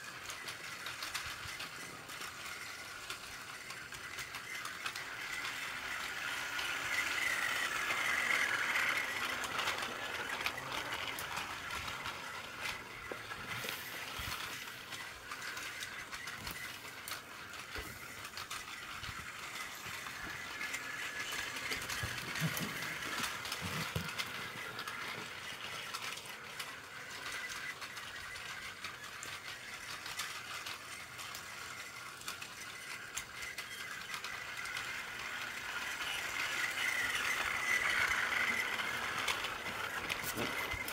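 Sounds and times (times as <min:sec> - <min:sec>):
toy train motor whine: 0:00.0 - 0:40.9
toy train wheels rattling on track: 0:00.0 - 0:40.9.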